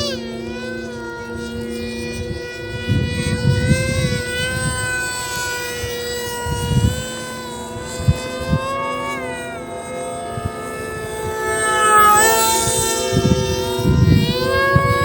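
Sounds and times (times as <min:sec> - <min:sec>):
electric motor propeller whine: 0:00.0 - 0:15.0
wind buffeting microphone: 0:00.0 - 0:15.0.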